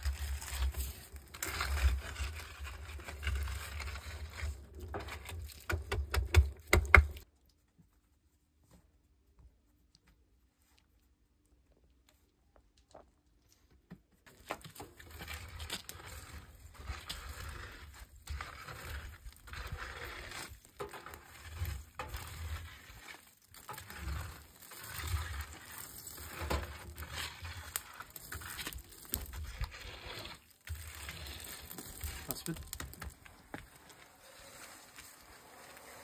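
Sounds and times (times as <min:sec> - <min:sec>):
embers scraping and crackling: 0:00.0 - 0:07.6, 0:14.2 - 0:36.0.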